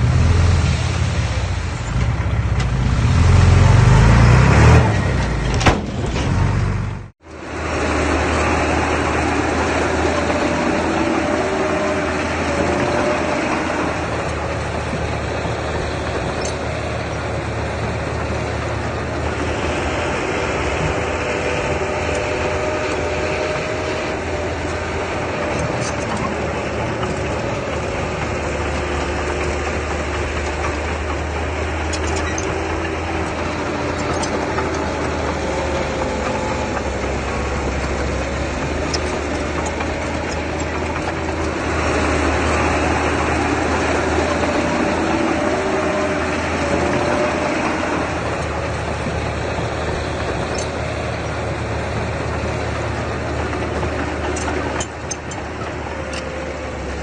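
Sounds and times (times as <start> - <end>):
earthmoving machine engine running: 0.0 - 57.0.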